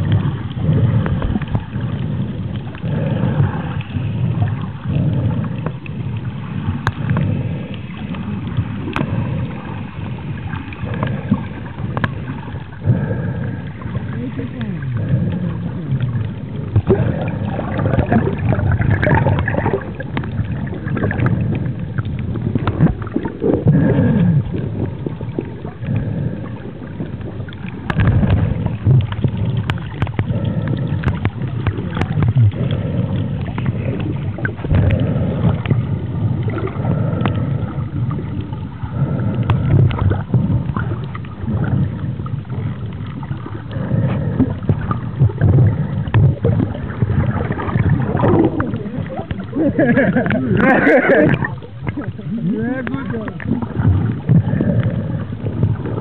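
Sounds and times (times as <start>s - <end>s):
underwater water rushing and gurgling: 0.0s - 56.0s.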